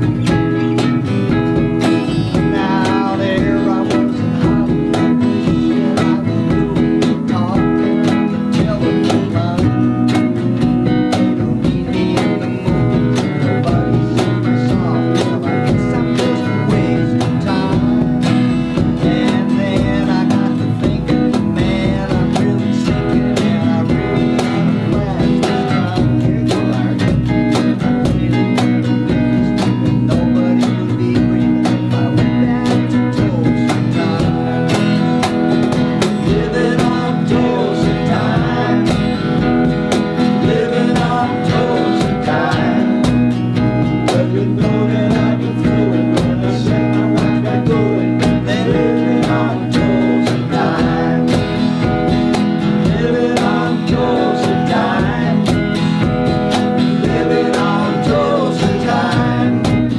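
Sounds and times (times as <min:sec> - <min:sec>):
acoustic guitars strumming: 0:00.0 - 0:59.9
keyboard: 0:00.0 - 0:59.9
steady beat: 0:00.0 - 0:59.9.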